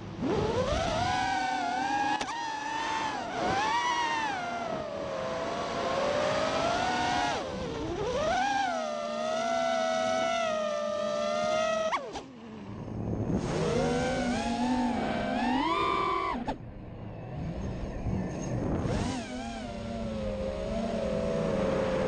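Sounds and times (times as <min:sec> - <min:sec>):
drone motors whining: 0:00.1 - 0:22.0.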